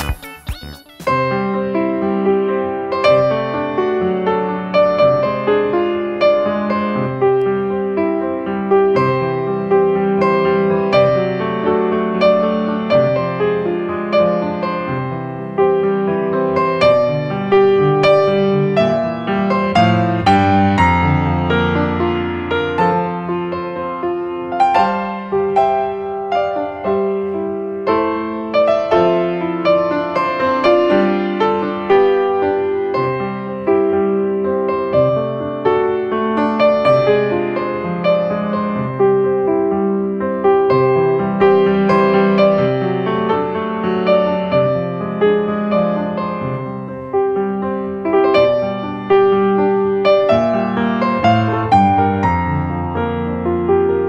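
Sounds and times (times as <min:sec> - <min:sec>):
slow piano music: 0:01.0 - 0:54.0.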